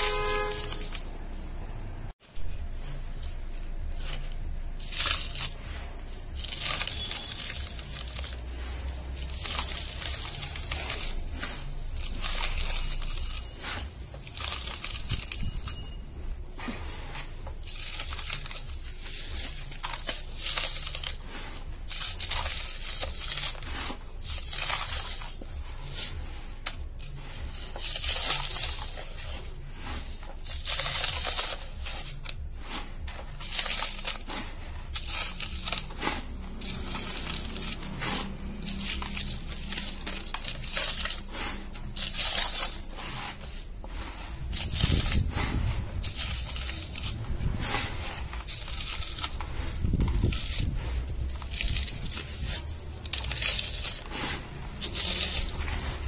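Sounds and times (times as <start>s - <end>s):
falling grains rustling: 0.0s - 1.1s, 2.3s - 56.0s
sand crunching by hand: 2.8s - 15.9s, 16.9s - 56.0s.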